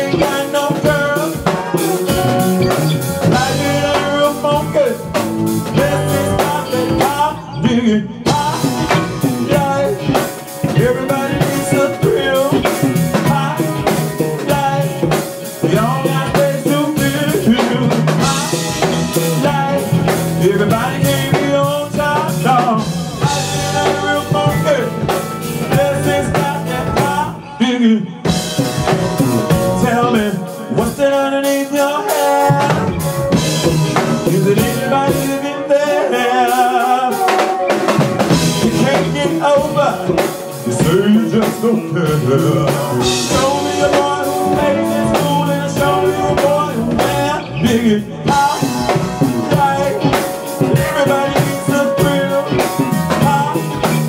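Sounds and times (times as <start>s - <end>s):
drum kit: 0.0s - 27.5s, 28.1s - 54.0s
electric bass: 0.0s - 31.2s, 32.5s - 36.5s, 37.7s - 54.0s
keyboards: 0.0s - 54.0s
person singing: 0.0s - 54.0s.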